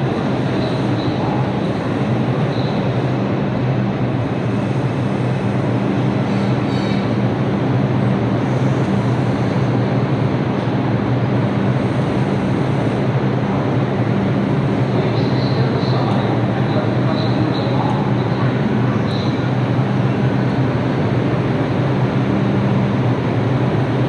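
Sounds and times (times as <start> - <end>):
constant low hum: 0.0 - 24.0
subway train rumbling on rail: 0.0 - 24.0.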